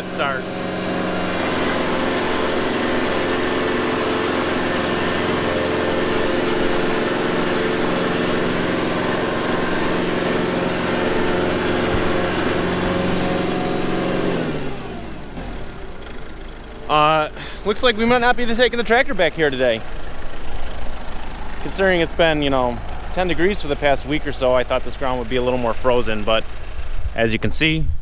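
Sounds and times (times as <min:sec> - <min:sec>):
tractor diesel engine revving: 0:00.0 - 0:27.5.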